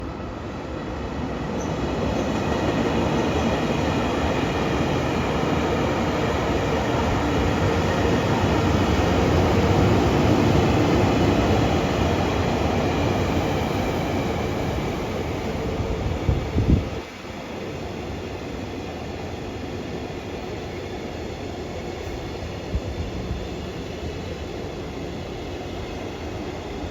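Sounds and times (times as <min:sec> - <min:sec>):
freight train wheels rumbling on rail: 0:00.0 - 0:26.9.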